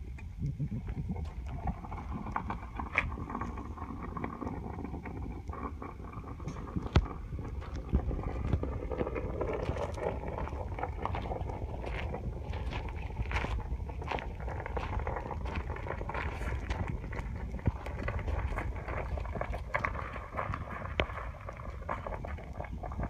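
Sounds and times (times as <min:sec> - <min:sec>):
flames crackling and popping: 0:00.0 - 0:23.0
low rumble of pouring metal: 0:00.0 - 0:23.0.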